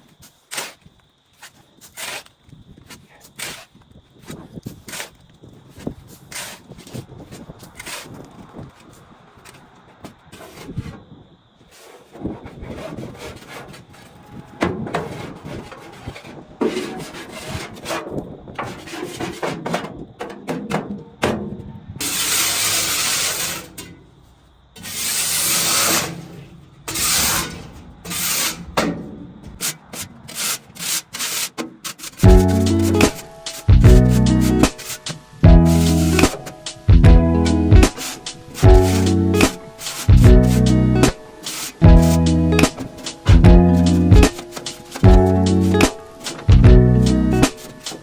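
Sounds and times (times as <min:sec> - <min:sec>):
scraper scraping metal truck bed: 0:06.3 - 0:08.2, 0:09.5 - 0:11.0, 0:11.6 - 0:24.0, 0:24.8 - 0:48.0.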